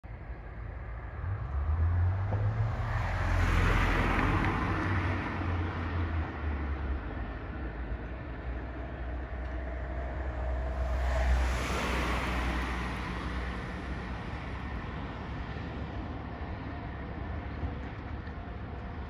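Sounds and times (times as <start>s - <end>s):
distant locomotive drone: 0.1s - 19.0s
car passing: 0.8s - 17.8s.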